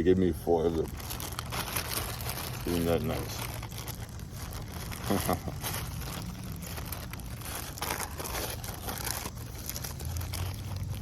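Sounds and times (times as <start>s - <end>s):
food packaging crinkling: 0.0s - 11.0s.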